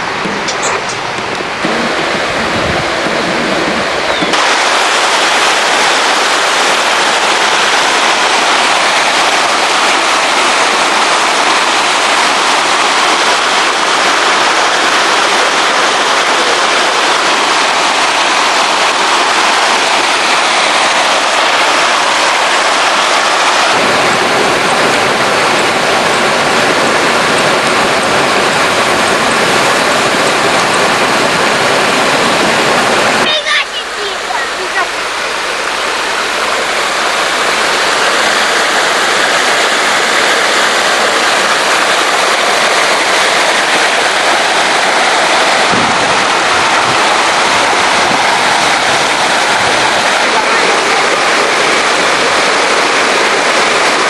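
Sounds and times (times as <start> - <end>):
water rushing over rock: 0.0 - 54.0.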